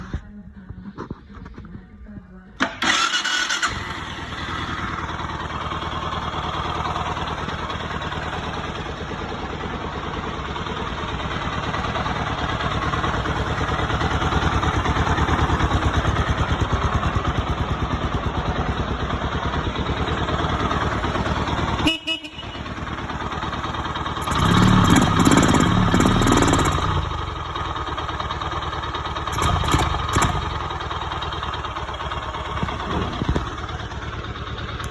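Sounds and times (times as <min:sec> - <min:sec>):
single-cylinder engine running: 0:02.6 - 0:34.9.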